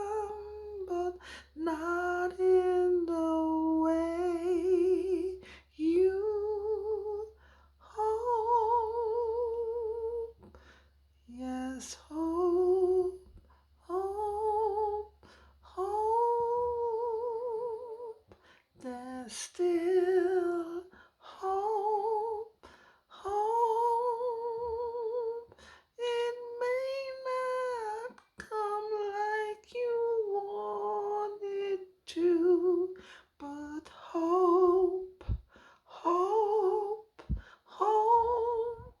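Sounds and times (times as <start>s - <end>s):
high voice singing wordless melody: 0.0s - 10.5s, 11.3s - 39.0s.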